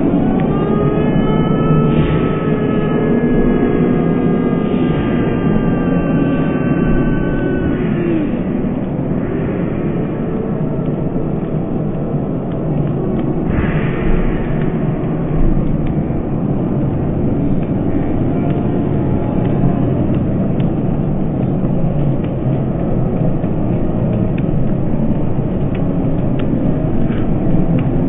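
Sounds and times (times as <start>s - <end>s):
large crowd din: 0.0s - 28.0s.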